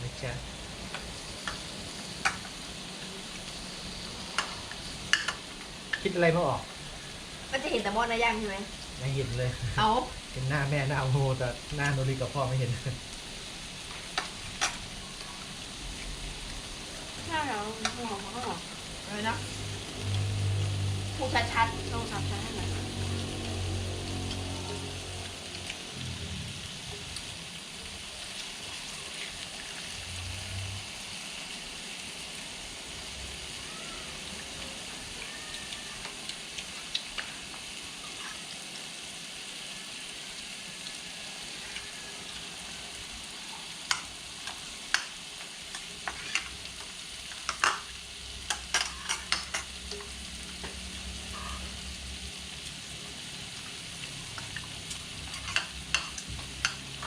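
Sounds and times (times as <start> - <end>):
meat sizzling on grill pan: 0.0 - 57.0.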